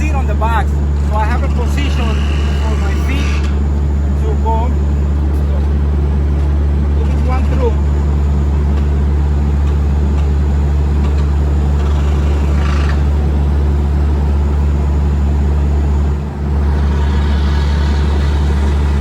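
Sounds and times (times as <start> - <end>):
air compressor engine droning: 0.0 - 19.0.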